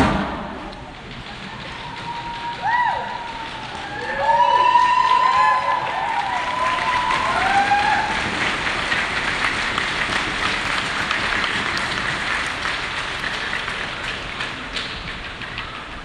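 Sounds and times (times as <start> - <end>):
audience clapping: 0.6 - 16.0.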